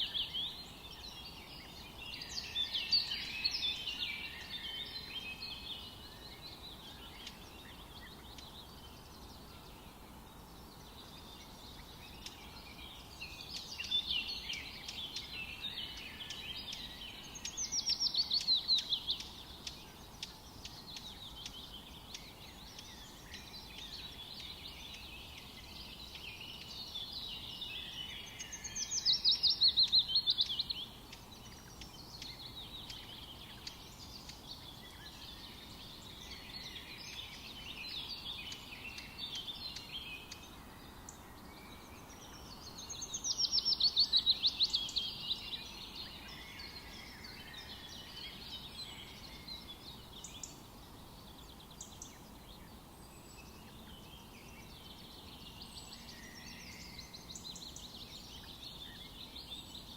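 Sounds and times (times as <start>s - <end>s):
background hiss: 0.0s - 59.9s
birds singing: 0.0s - 59.9s
loud bird song falling in pitch: 0.0s - 59.9s.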